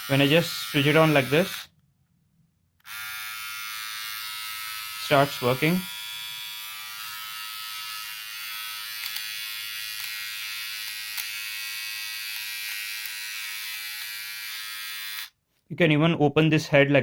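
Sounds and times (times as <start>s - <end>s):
beard trimmer buzzing: 0.0s - 1.7s, 2.8s - 15.4s.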